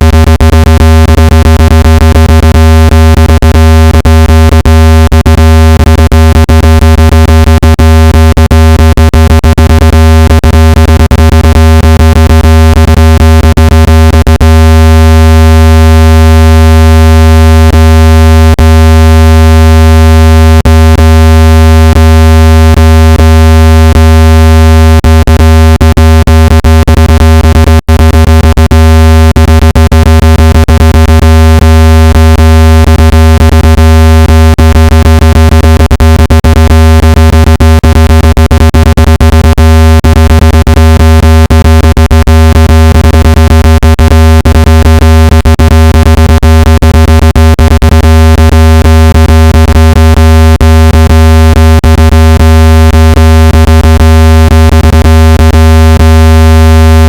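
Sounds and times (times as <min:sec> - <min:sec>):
low-pitched electronic buzz tone: 0:00.0 - 0:57.0.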